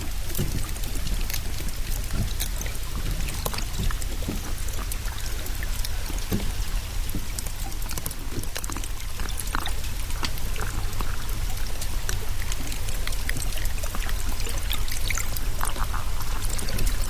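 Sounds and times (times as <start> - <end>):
steady low underwater rumble: 0.0 - 17.0.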